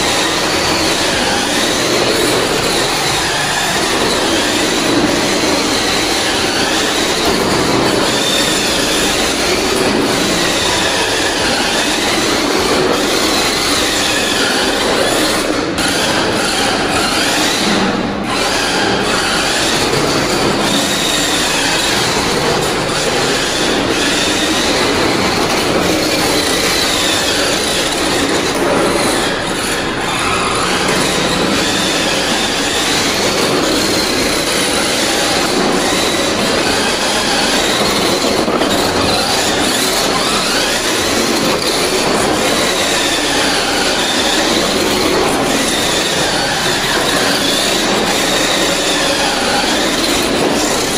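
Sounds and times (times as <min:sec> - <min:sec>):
toy car electric motor whining: 0:00.0 - 0:50.9.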